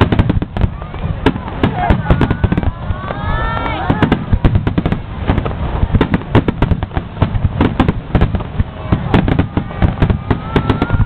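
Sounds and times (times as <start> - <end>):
continuous low rumble: 0.0 - 11.0
firework shells bursting: 0.0 - 11.0.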